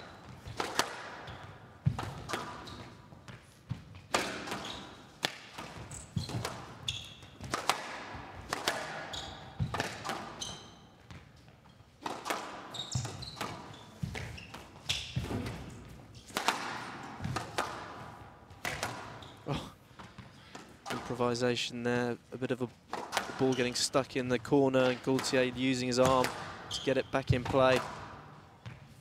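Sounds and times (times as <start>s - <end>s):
shoes squeaking on court floor: 0.0s - 17.6s, 18.5s - 21.3s, 22.6s - 29.0s
squash ball hitting rackets and walls: 0.0s - 21.2s, 22.9s - 23.7s, 24.8s - 29.0s.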